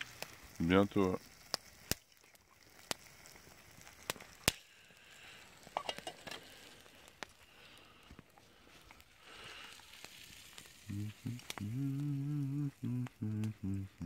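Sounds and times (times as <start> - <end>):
campfire crackling and popping: 0.0 - 14.0
cheese sizzling in pan: 0.0 - 14.0.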